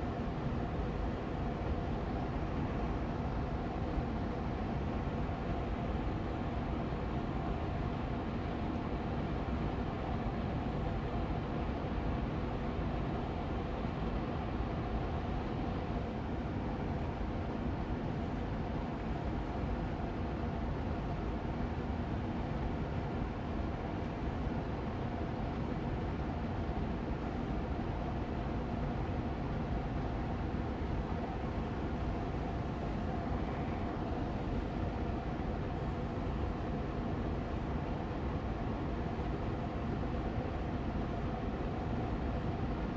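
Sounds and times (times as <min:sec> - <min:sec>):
air purifier fan running: 0:00.0 - 0:42.9
faint steady tone: 0:00.0 - 0:42.9.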